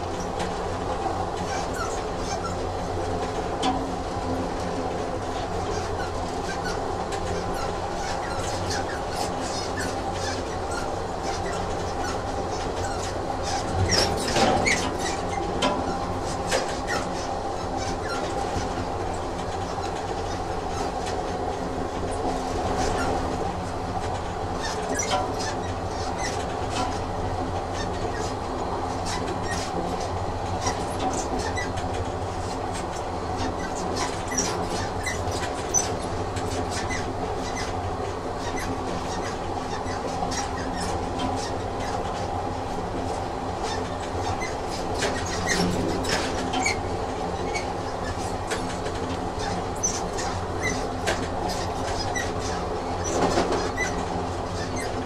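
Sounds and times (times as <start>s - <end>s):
train running on rails: 0.0s - 55.0s
wheels clicking over track: 0.0s - 55.0s.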